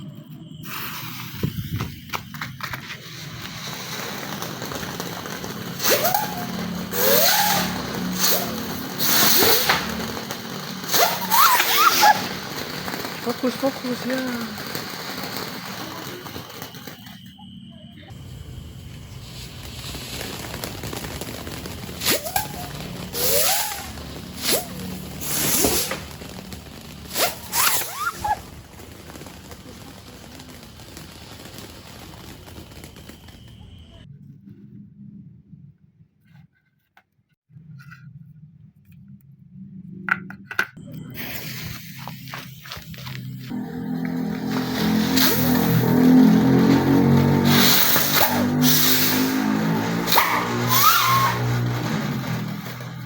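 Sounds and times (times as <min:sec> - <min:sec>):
firework crackling: 0:00.0 - 0:34.1, 0:41.1 - 0:53.0
firework hissing: 0:00.0 - 0:34.1, 0:41.1 - 0:53.0.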